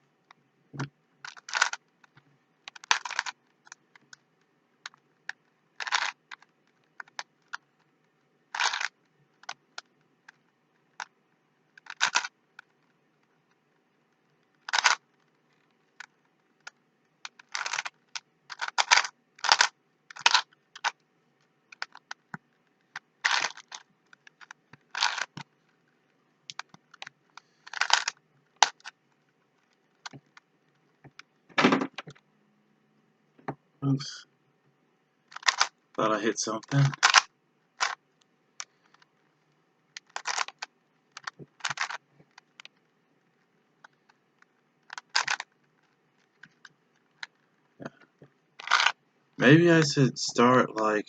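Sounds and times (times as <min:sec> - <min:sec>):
plastic puzzle cube clacking: 0:00.2 - 0:32.2, 0:35.2 - 0:35.9, 0:36.6 - 0:49.0.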